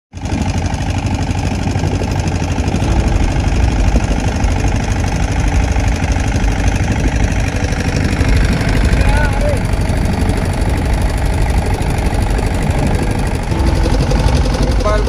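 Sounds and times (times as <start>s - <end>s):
boat engine running: 0.2s - 15.0s.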